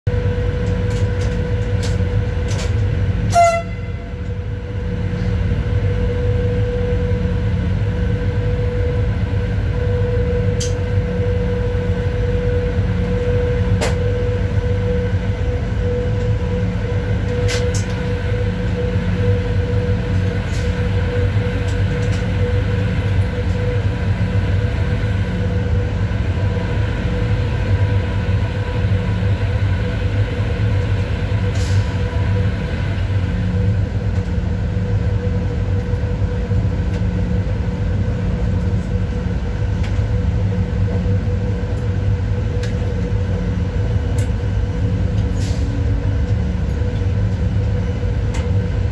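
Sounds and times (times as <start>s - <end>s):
electric locomotive rumble: 0.1s - 48.9s.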